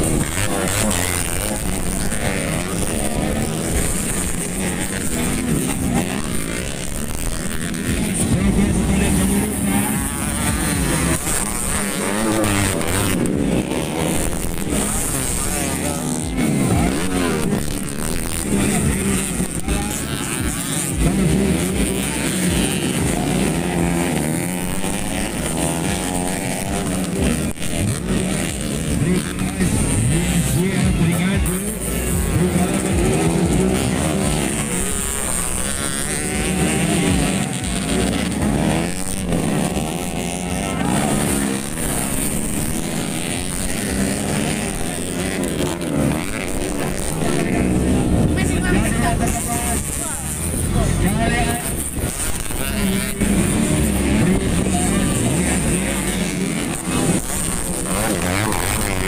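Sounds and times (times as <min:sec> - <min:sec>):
motorcycles racing: 0:00.0 - 0:59.0.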